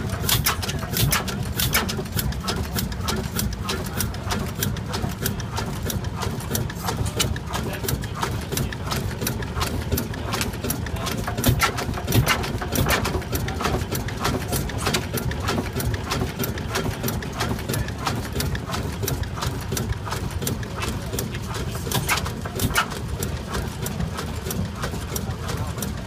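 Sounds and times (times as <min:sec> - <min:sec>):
rapid mechanical clicking: 0:00.0 - 0:26.0
stationary engine running: 0:00.0 - 0:26.0.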